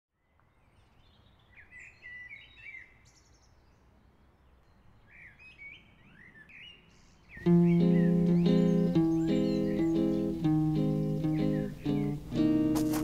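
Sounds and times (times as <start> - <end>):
birds chirping: 0.3 - 13.0.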